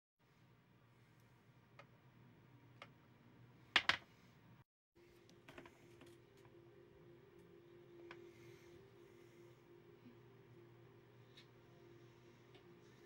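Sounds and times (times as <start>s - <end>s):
faint steady hum: 0.2s - 13.0s.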